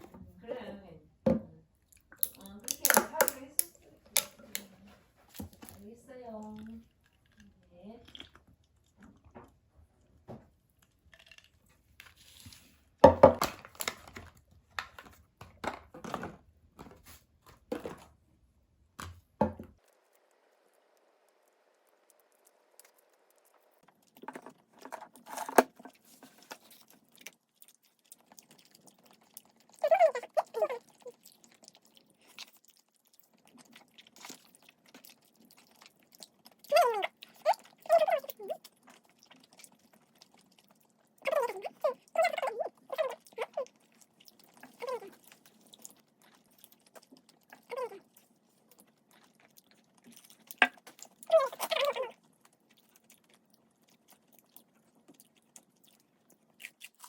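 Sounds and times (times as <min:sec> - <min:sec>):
chewing and crunching: 0:01.8 - 0:18.3, 0:19.2 - 0:57.0.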